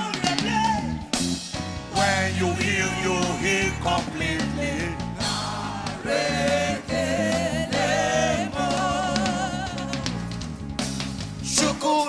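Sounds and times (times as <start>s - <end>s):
gospel singing: 0.0s - 10.6s, 11.4s - 12.0s
bass and keyboard accompaniment: 0.0s - 12.0s.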